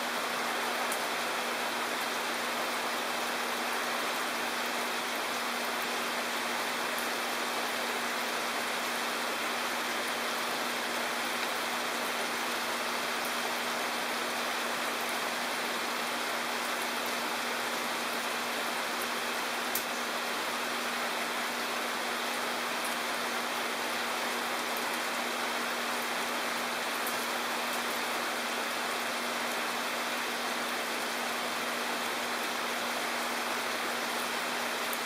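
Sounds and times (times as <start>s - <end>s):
rain falling on water: 0.0s - 35.0s.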